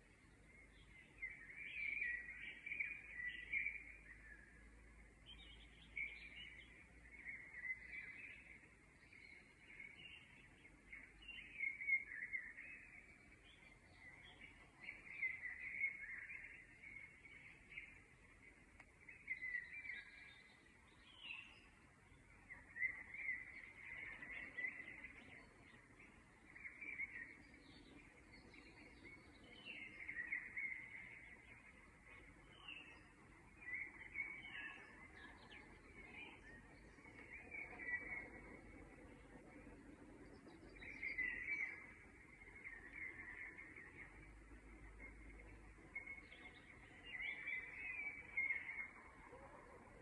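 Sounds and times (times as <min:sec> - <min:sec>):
low background hiss: 0:00.0 - 0:50.0
birds chirping and singing: 0:05.3 - 0:50.0.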